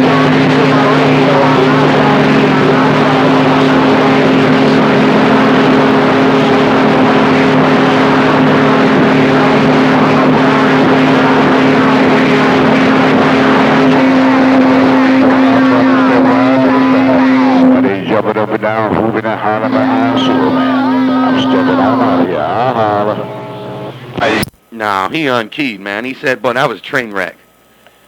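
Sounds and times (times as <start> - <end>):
loud radio static: 0.0 - 27.4
steady low radio tones: 0.0 - 28.0.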